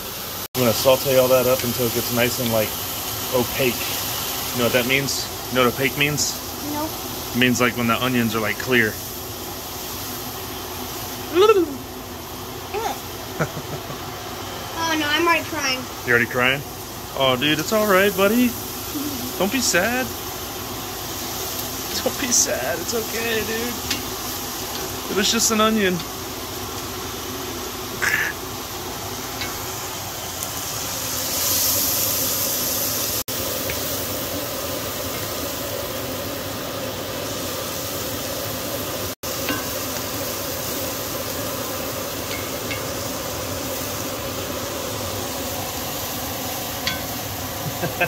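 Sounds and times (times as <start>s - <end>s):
vegetables sizzling in a skillet: 0.0s - 48.0s.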